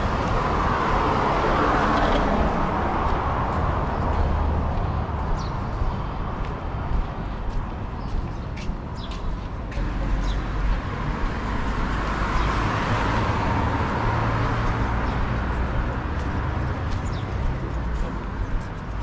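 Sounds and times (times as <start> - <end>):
car passing: 0.0 - 7.5, 9.8 - 19.0.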